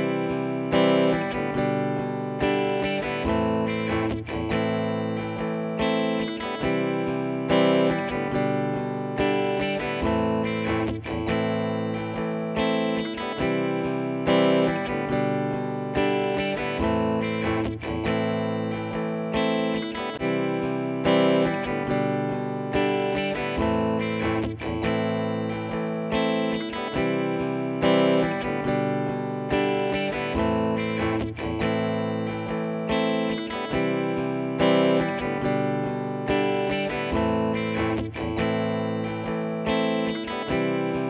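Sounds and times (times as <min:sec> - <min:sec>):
guitar background music: 0:00.0 - 0:41.0.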